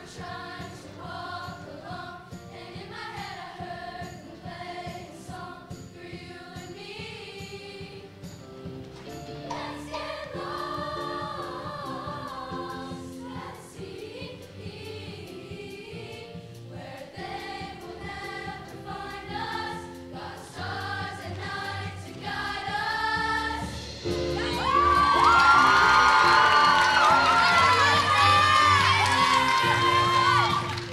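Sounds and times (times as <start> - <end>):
choir singing: 0.0 - 8.3, 9.4 - 30.9
instrumental backing music: 0.0 - 30.9.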